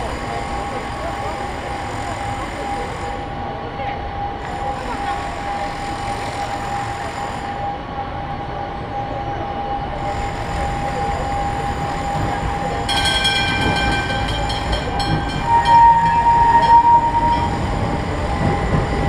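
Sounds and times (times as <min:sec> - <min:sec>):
high steady squealing wheels: 0:00.0 - 0:19.0
streetcar rumbling on rails: 0:00.0 - 0:19.0.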